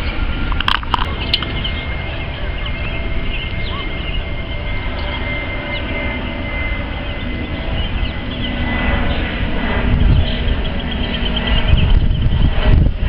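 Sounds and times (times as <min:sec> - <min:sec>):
jet airliner rumble: 0:00.0 - 0:13.0
jet engine high whine: 0:00.0 - 0:13.0.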